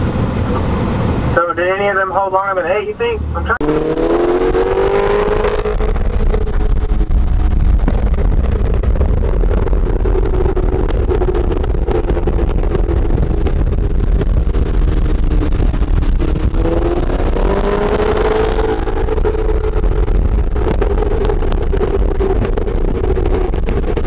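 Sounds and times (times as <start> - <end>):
car engines running: 0.0 - 24.0
road and wind rumble: 0.0 - 24.0
car accelerating hard: 3.2 - 24.0.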